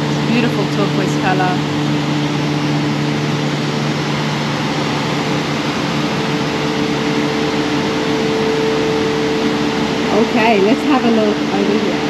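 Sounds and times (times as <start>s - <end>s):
humming tones: 0.0s - 12.0s
ventilation fans hissing: 0.0s - 12.0s.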